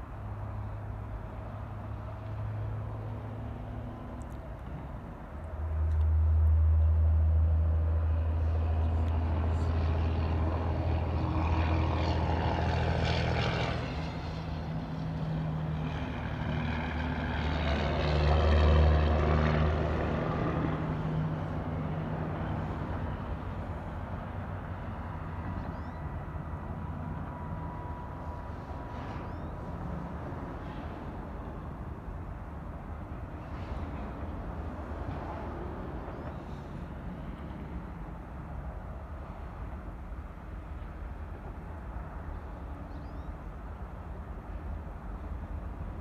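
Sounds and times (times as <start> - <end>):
diesel locomotive engine droning: 0.0 - 46.0.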